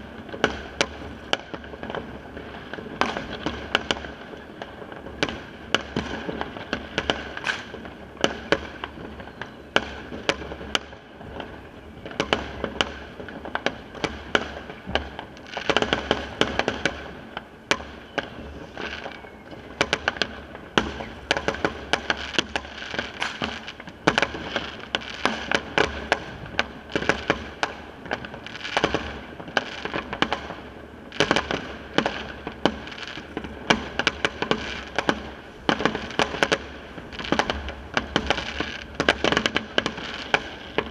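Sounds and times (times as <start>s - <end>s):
fireworks bangs and cracks: 0.0s - 40.9s
fireworks crackling: 0.0s - 40.9s.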